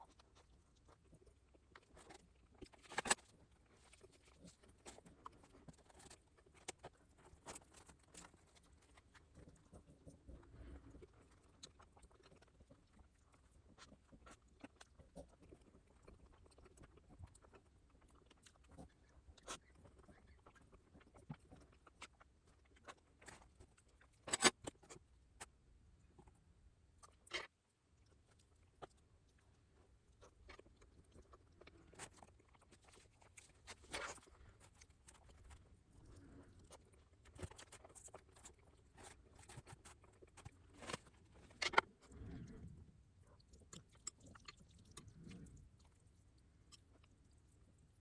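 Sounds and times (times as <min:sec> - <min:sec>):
chewing: 0:00.0 - 0:48.0.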